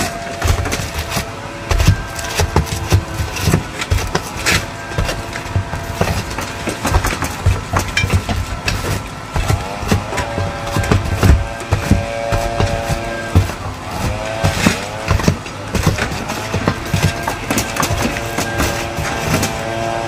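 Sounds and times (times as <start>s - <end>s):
steady mechanical hum: 0.0s - 20.0s
tools knocking on roof: 0.0s - 20.0s.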